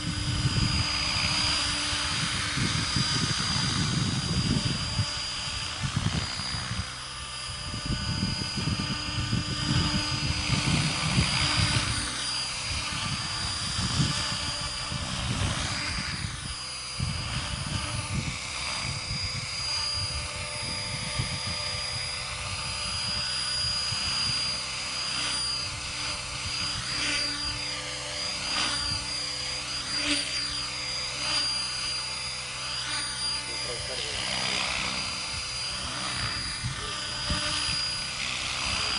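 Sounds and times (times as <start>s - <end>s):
rc helicopter rotor whine: 0.0s - 38.9s.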